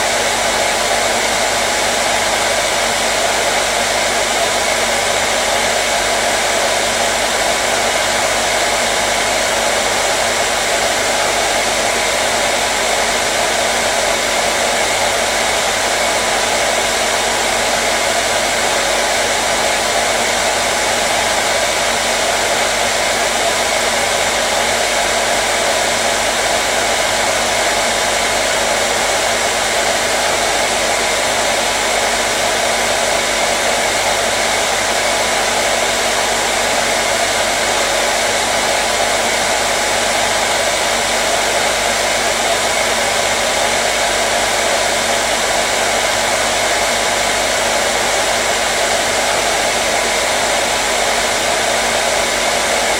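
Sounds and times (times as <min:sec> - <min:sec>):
hair dryer blowing air: 0:00.0 - 0:52.9.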